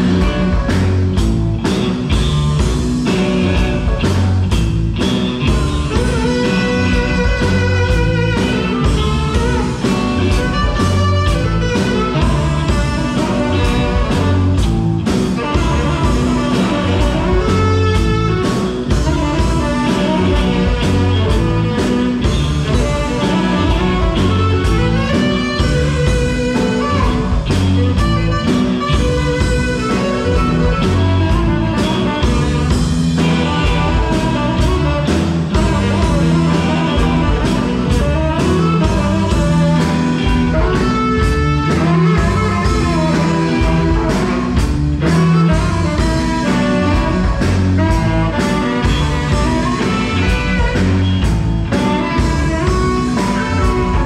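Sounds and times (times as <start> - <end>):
blues band playing: 0.0 - 54.0
electric guitar: 0.0 - 54.0.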